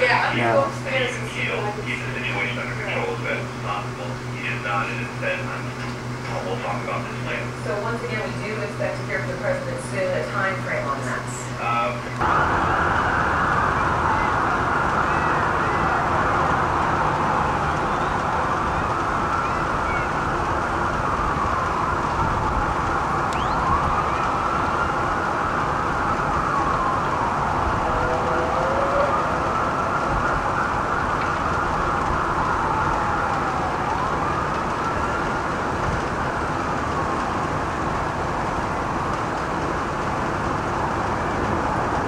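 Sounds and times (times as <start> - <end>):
sirens wailing: 0.0 - 42.0
street traffic noise: 0.0 - 42.0.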